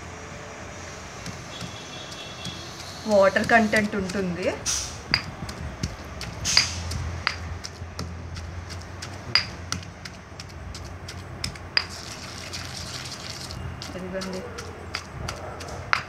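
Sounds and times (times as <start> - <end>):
stone pestle pounding in mortar: 1.2 - 16.0.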